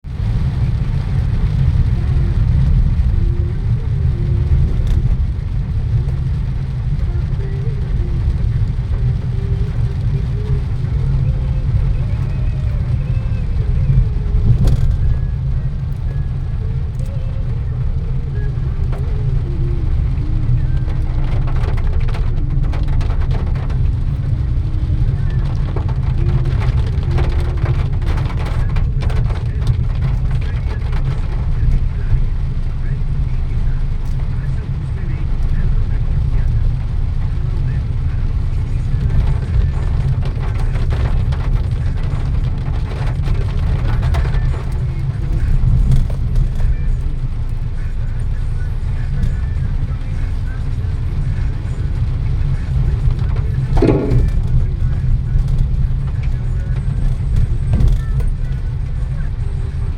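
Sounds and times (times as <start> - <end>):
road vehicle interior rumble: 0.0 - 59.9.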